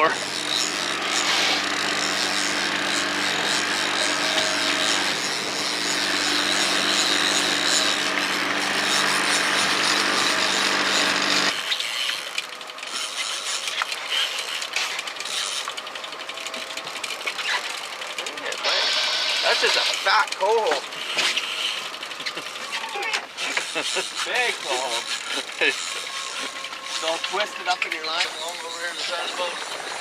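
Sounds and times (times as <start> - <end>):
boat motor running: 0.0 - 30.0.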